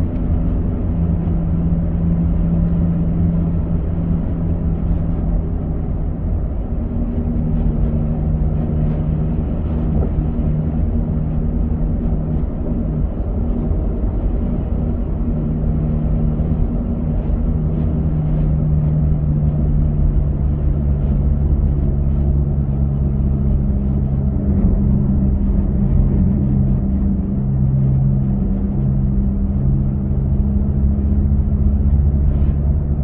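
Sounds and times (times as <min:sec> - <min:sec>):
low hum: 0:00.0 - 0:33.0
road rumble: 0:00.0 - 0:33.0.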